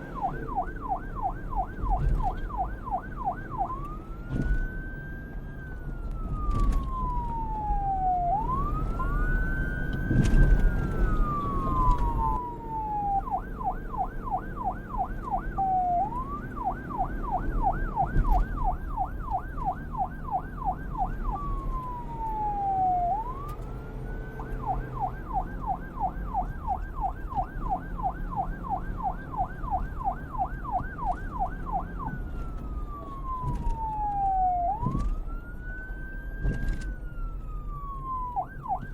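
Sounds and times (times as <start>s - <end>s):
police siren wailing and yelping: 0.0s - 38.9s.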